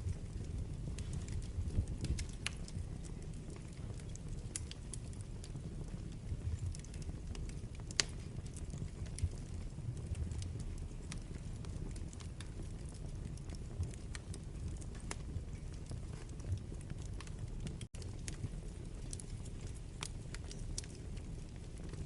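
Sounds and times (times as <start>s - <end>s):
fire crackling and popping: 0.0s - 22.0s
wood fire burning: 0.0s - 22.0s.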